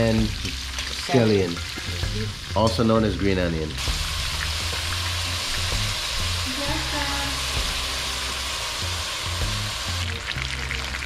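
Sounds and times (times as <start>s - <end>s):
background music: 0.0s - 11.0s
vegetables sizzling in oil: 0.0s - 11.0s.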